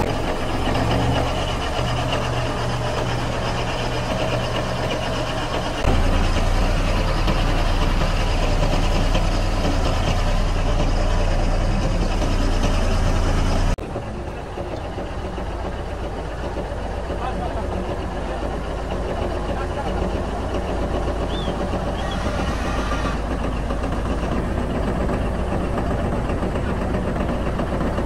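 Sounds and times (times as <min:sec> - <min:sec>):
bulldozer diesel engine idling: 0:00.0 - 0:28.0.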